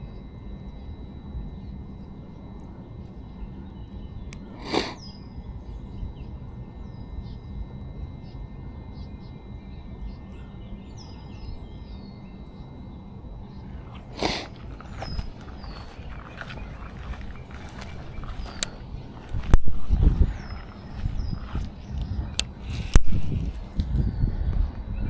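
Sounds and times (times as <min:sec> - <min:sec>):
birds chirping: 0:00.0 - 0:25.0
low outdoor rumble: 0:00.0 - 0:25.0.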